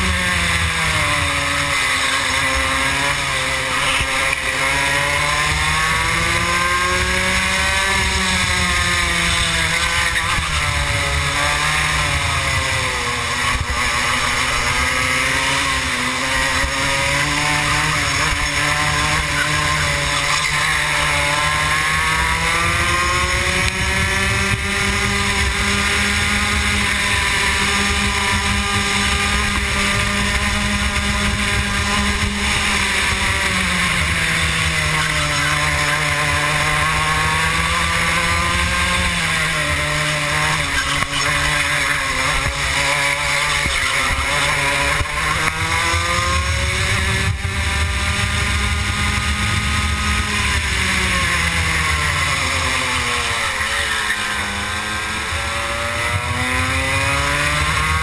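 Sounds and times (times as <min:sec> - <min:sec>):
kart engine racing: 0:00.0 - 0:58.0.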